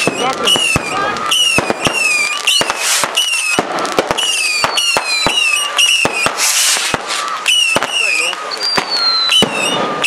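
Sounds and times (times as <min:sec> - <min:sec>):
firework bangs and crackles: 0:00.0 - 0:10.0
whistling fireworks: 0:00.0 - 0:10.0.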